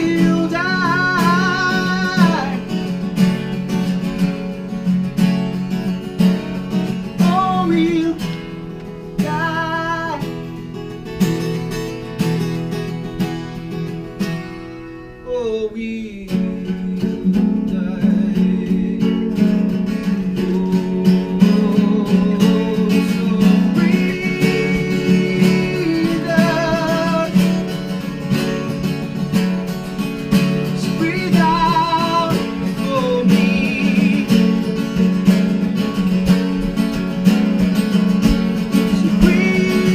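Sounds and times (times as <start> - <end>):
strummed acoustic guitar chords: 0.0 - 39.9.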